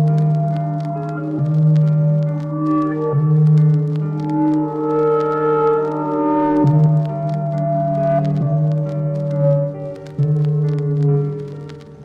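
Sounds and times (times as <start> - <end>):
faint clicks: 0.0 - 12.0
slow synth chords: 0.0 - 12.0.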